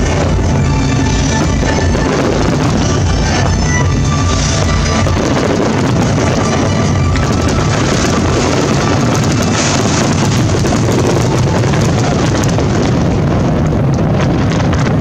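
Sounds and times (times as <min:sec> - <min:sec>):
fireworks crackling: 0:00.0 - 0:15.0
fireworks rumbling: 0:00.0 - 0:15.0.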